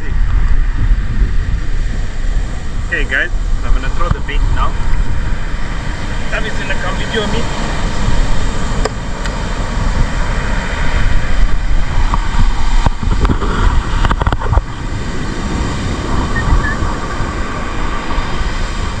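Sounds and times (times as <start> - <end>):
beach surf: 0.0 - 19.0
wind buffeting microphone: 0.0 - 19.0.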